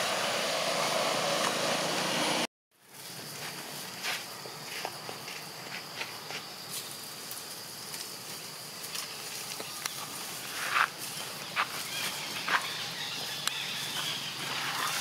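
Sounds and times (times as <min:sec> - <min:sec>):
forest insects hissing: 0:00.0 - 0:15.0.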